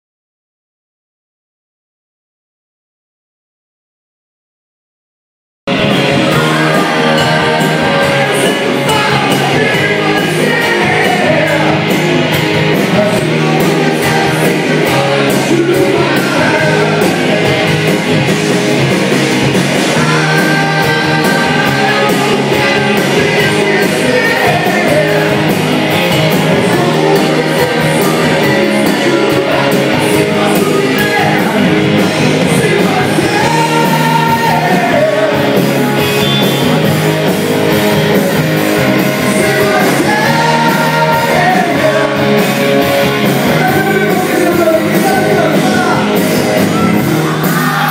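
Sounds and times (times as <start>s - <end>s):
bass guitar: 5.7s - 47.9s
drums with steady beat: 5.7s - 47.9s
electric guitars: 5.7s - 47.9s
lead singer singing: 5.8s - 18.1s, 19.8s - 36.9s, 38.3s - 47.9s.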